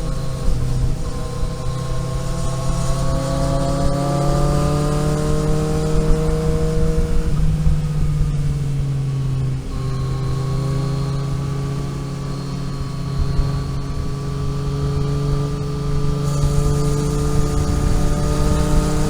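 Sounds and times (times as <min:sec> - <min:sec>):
car engine pulling: 0:00.0 - 0:19.0
road and wind noise rumble: 0:00.0 - 0:19.0.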